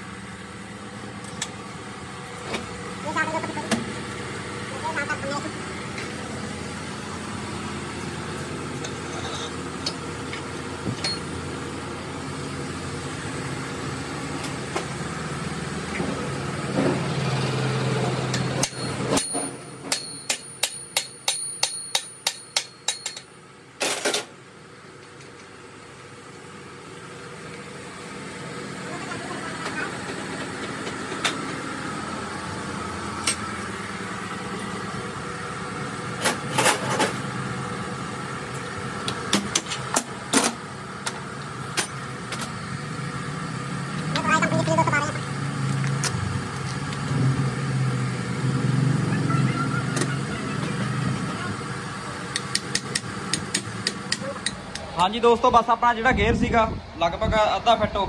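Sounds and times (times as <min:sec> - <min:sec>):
workshop hum: 0:00.0 - 0:58.0.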